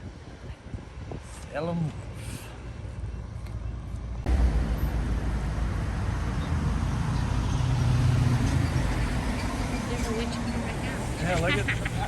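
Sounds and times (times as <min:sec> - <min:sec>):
road vehicle engine rumble: 0:02.1 - 0:12.0.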